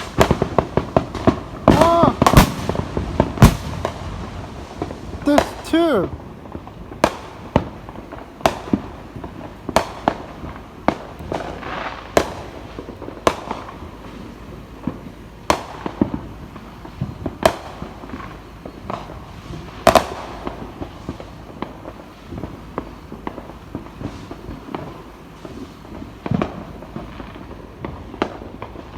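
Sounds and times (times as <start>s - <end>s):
fireworks bangs: 0.0s - 28.9s
fireworks crackling: 0.0s - 28.9s.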